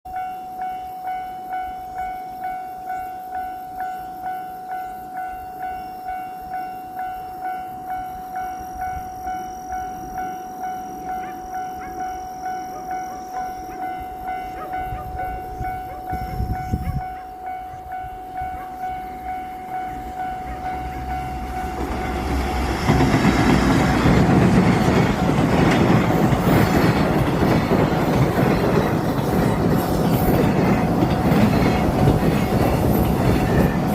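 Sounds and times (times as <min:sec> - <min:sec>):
level-crossing warning bell ringing: 0:00.1 - 0:33.9
freight train rumbling past: 0:00.2 - 0:33.9
train wagons clattering over rails: 0:01.8 - 0:33.9.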